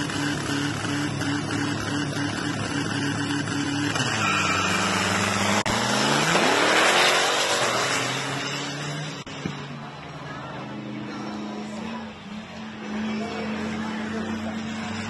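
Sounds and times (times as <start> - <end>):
racing engines at full throttle: 0.0 - 15.0.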